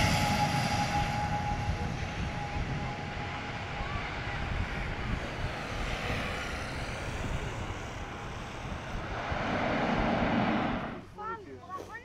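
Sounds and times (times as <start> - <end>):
airliner engines running: 0.0 - 12.0.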